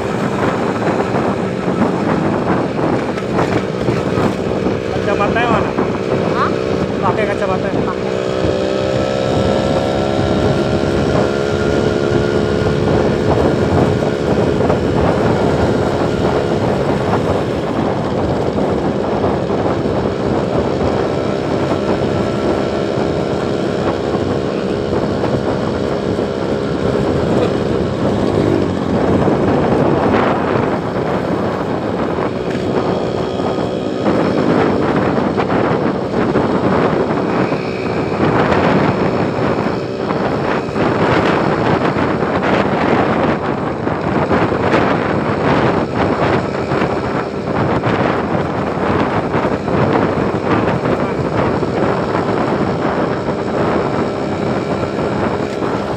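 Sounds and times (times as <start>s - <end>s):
road and wind rumble: 0.0s - 55.9s
vehicle engine running: 0.0s - 55.9s.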